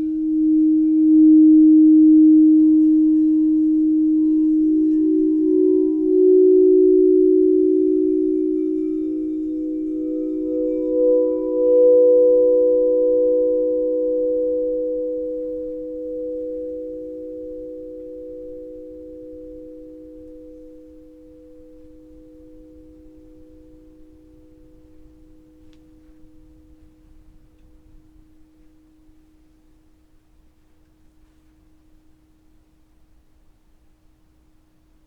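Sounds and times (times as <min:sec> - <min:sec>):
singing bowl tones ringing: 0:00.0 - 0:30.2.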